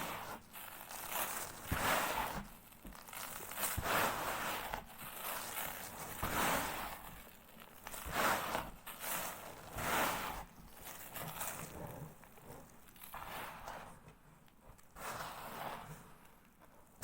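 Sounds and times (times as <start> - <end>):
sand crunching on cardboard: 0.0 - 14.0.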